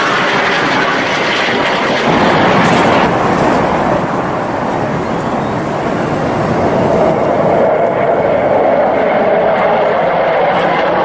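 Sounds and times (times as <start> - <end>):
fighter jet flying past: 0.0 - 11.0.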